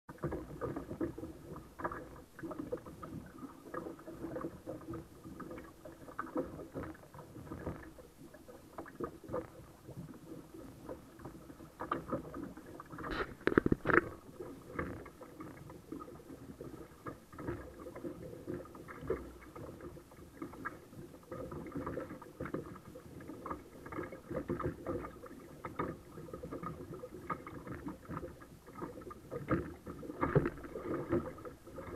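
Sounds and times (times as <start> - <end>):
water splashing against hull: 0.1 - 31.9.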